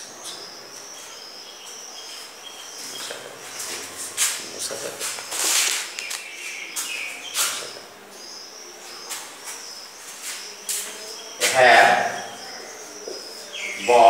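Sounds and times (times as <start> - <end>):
insect chirping: 0.0 - 14.0.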